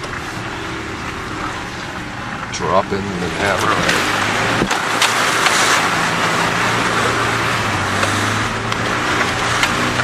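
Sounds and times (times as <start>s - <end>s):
engine running: 0.0s - 10.0s
mud slapping: 0.0s - 10.0s
muddy water splashing: 0.0s - 10.0s.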